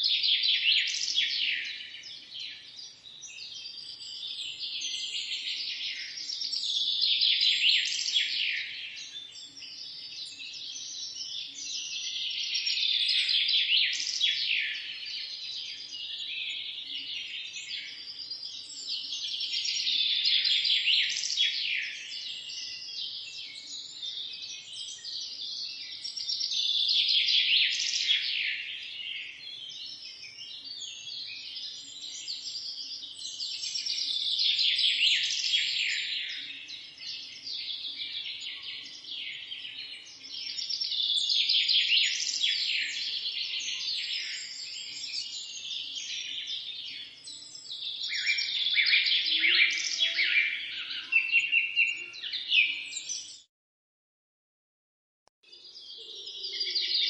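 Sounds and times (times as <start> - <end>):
small birds chirping: 0.0 - 53.5, 55.4 - 57.0.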